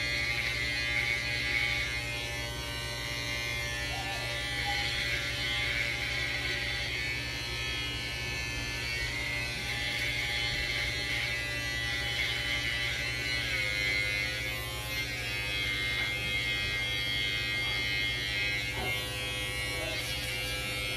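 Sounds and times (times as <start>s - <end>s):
electric hair clippers buzzing: 0.0s - 20.9s.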